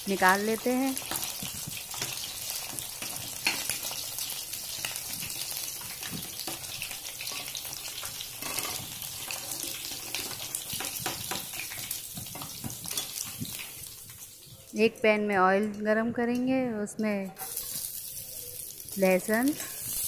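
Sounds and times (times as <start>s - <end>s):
food sizzling in hot oil: 0.0s - 15.1s, 17.4s - 20.0s.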